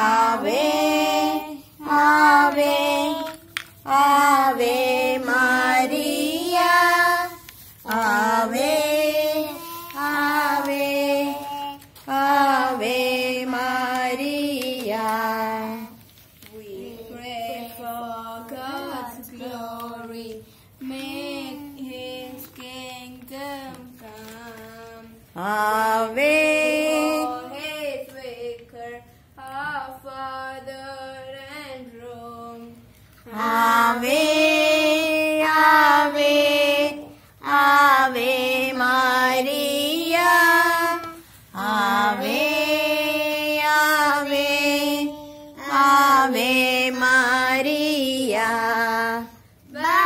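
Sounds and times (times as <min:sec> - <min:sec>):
girls singing a hymn: 0:00.0 - 0:50.0.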